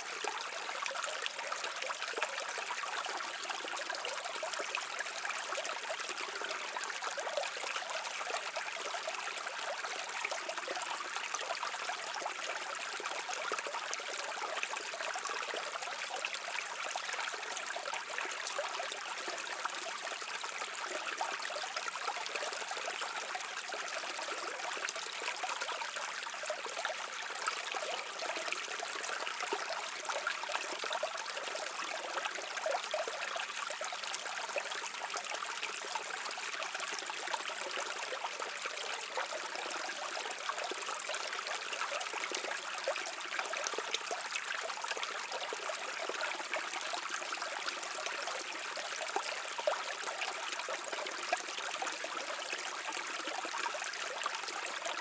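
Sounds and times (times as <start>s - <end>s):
brook water babbling over stones: 0.0s - 55.0s.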